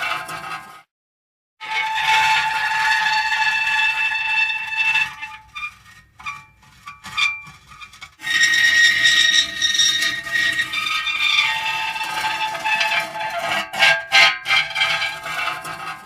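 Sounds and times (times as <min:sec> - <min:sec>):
metal creaking: 0:01.7 - 0:16.0.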